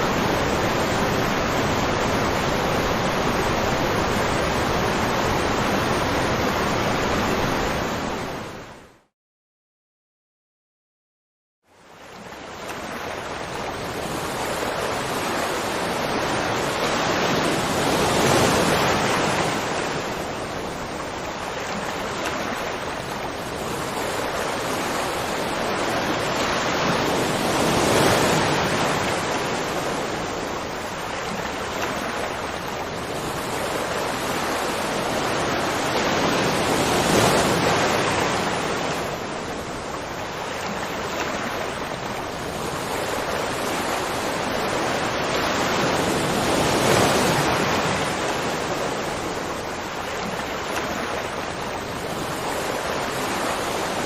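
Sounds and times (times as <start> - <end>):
rushing water: 0.0 - 9.1, 11.7 - 54.0.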